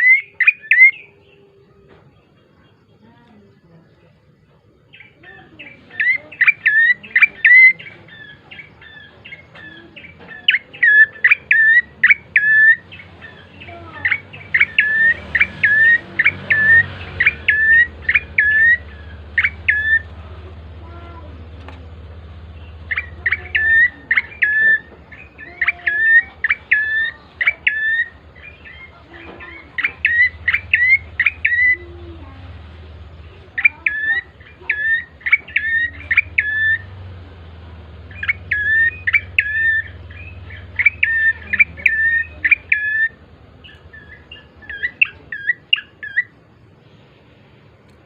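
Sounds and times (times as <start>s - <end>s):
bird singing high chirps: 0.0s - 4.0s, 4.7s - 47.2s
faint low hum: 0.0s - 48.0s.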